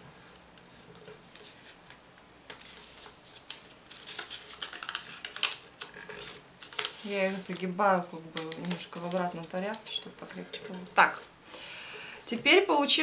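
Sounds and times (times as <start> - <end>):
paper rustling while folded: 0.0 - 11.3.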